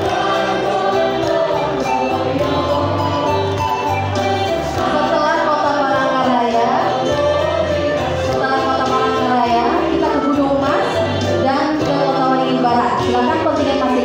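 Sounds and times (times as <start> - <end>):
mixed choir singing: 0.0 - 14.0.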